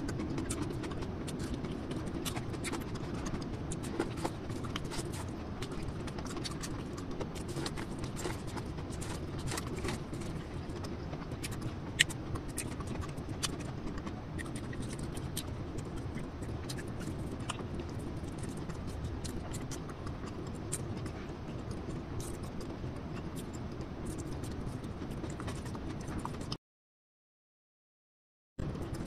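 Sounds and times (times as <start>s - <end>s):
chewing and mouth clicks: 0.0s - 26.6s, 28.6s - 29.0s
steady low hum: 0.0s - 26.6s, 28.6s - 29.0s.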